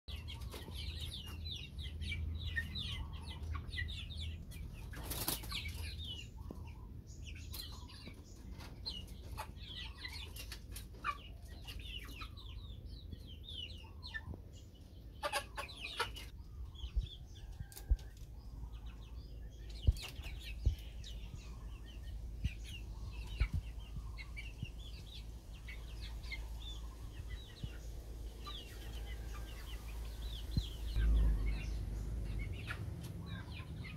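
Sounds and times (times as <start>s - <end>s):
chicks peeping and clucking: 0.1s - 33.9s.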